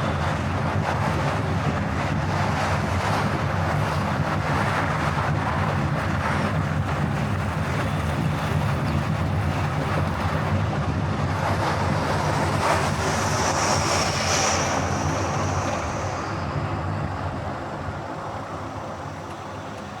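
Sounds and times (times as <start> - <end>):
car driving on highway: 0.1 - 20.0.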